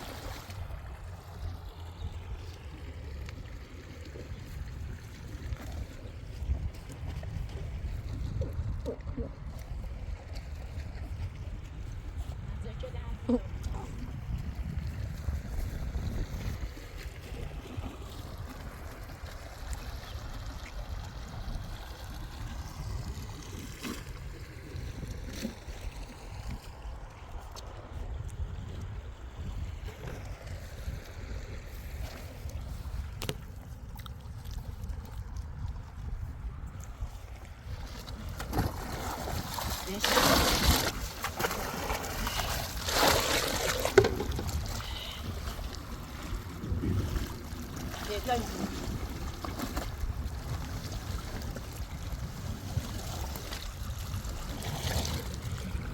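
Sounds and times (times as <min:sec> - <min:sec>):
running and splashing water: 0:00.0 - 0:55.9
wind rumbling on microphone: 0:00.0 - 0:55.9.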